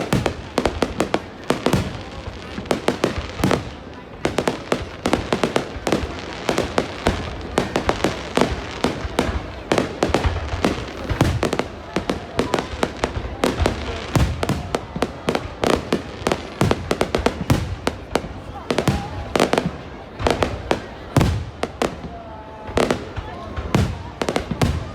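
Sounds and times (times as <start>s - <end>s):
deep firework booms: 0.0s - 24.9s
firework bangs and crackles: 0.0s - 24.9s.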